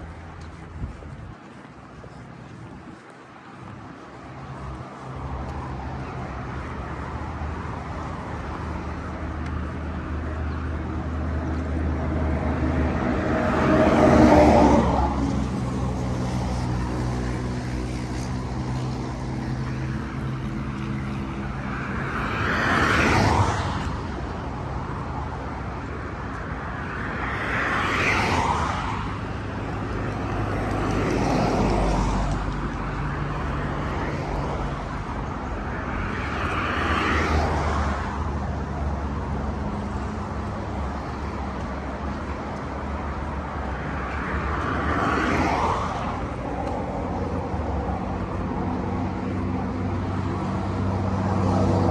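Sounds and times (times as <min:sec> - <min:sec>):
vehicles passing: 0:00.0 - 0:51.9.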